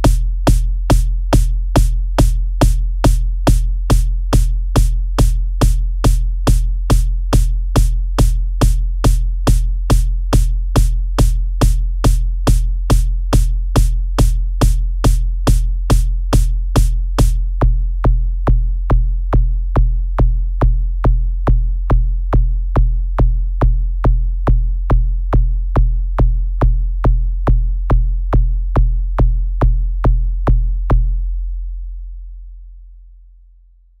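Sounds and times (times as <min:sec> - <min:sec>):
drum machine kick beat: 0:00.0 - 0:31.3
deep bass: 0:00.0 - 0:34.0.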